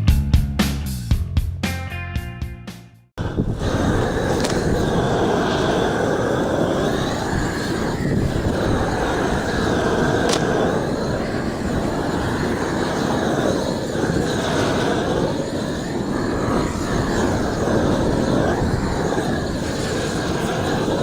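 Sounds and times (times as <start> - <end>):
roofing torch burning: 3.2 - 21.0.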